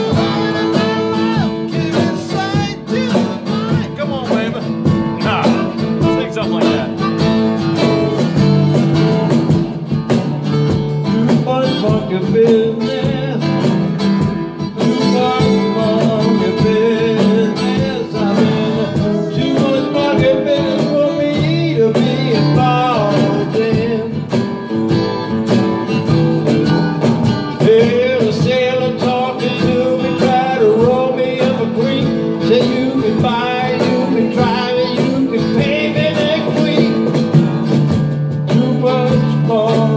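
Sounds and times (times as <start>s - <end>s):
electric guitars: 0.0s - 39.9s
live blues-rock band: 0.0s - 39.9s.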